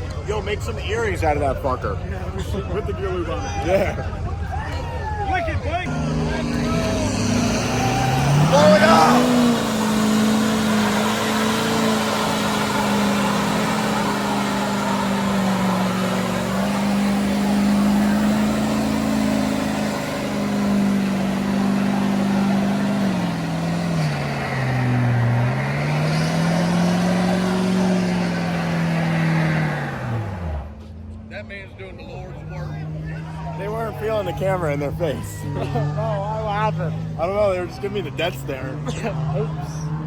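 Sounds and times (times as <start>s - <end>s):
truck engine at high revs: 5.2s - 31.2s, 32.2s - 40.0s.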